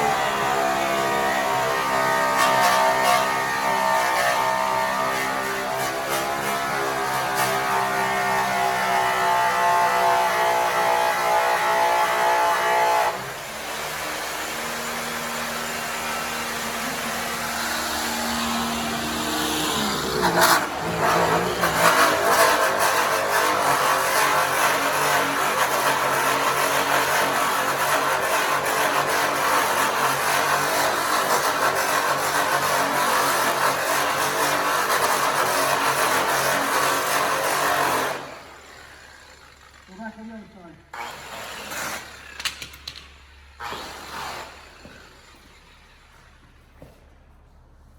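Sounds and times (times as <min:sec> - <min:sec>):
angle grinder polisher whining: 0:00.0 - 0:46.6.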